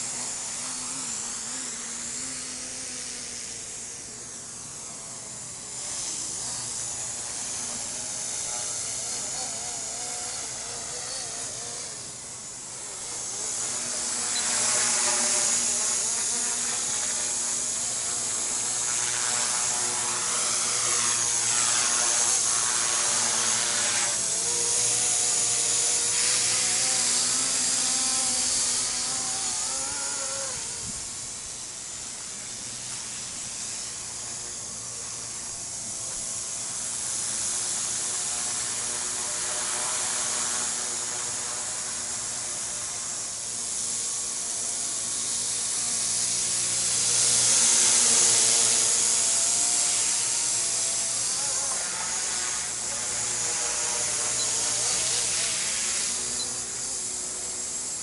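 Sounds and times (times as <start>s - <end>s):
rc helicopter motor whine: 0.0s - 58.0s.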